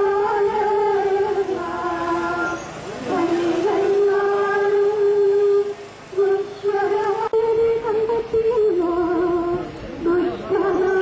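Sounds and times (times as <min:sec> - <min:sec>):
person singing a slow hymn: 0:00.0 - 0:11.0.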